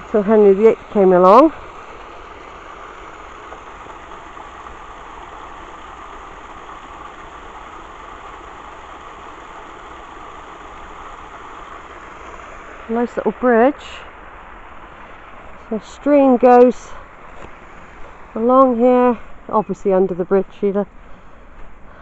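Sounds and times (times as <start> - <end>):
stream water rushing down cascade: 0.0 - 20.0.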